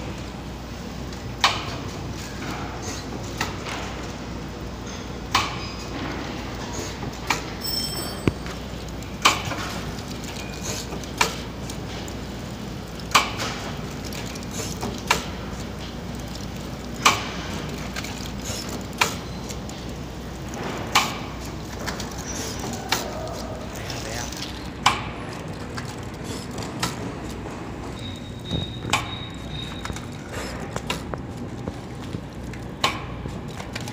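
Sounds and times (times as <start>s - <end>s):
packing machine humming: 0.0s - 33.9s.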